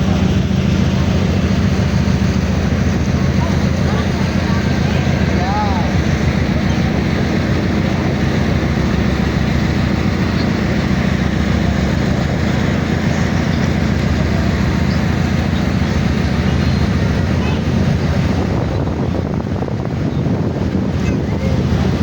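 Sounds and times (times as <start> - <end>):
boat engine rumbling: 0.0 - 22.0
water rushing: 0.0 - 22.0.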